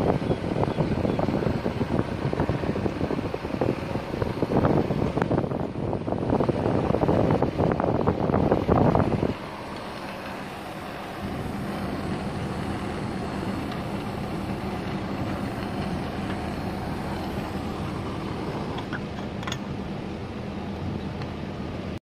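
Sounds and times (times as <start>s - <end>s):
air conditioner unit humming: 0.0s - 22.0s.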